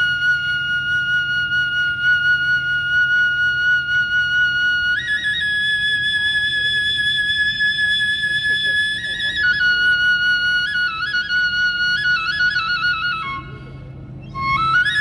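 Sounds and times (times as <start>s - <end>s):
bamboo flute high notes: 0.0s - 15.0s.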